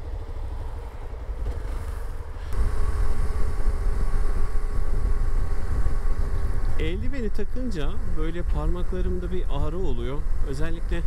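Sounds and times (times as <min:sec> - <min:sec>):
low wind rumble: 0:00.0 - 0:11.0
motorcycle engine: 0:01.4 - 0:11.0.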